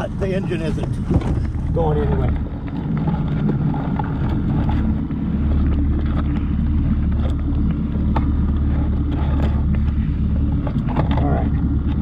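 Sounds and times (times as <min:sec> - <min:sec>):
boat motor idling: 0:00.0 - 0:12.0
wind on microphone: 0:00.0 - 0:12.0.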